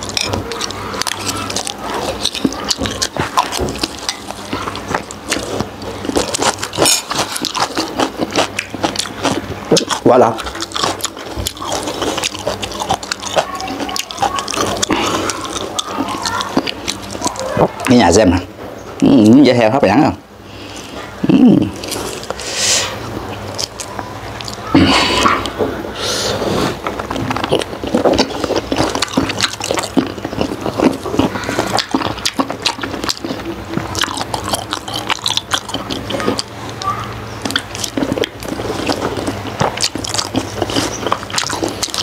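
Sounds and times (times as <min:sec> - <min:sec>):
wet chewing and smacking: 0:00.0 - 0:18.4, 0:20.8 - 0:25.6, 0:26.8 - 0:42.0.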